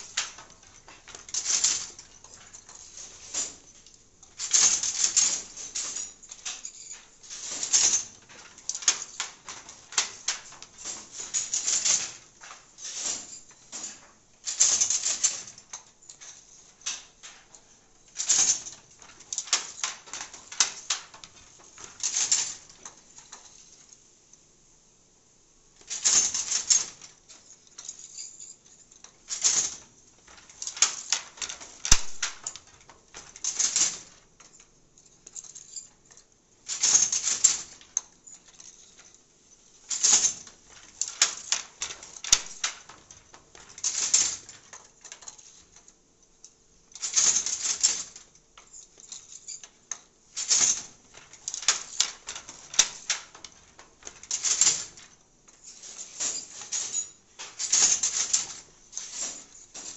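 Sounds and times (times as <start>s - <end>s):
wooden handloom clattering: 0.0s - 24.0s, 25.8s - 59.9s.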